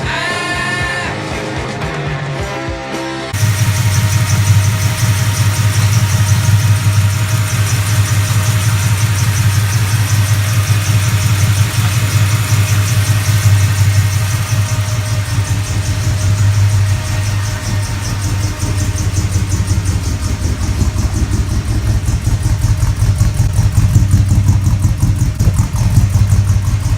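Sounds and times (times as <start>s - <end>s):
car engine idling: 3.4s - 26.9s.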